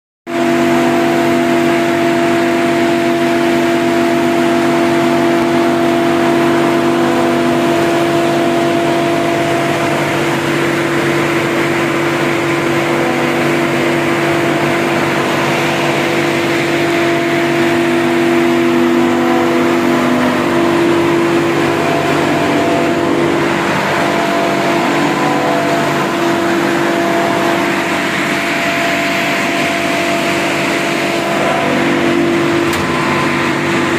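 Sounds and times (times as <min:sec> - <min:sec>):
air compressor humming: 0:00.3 - 0:33.9.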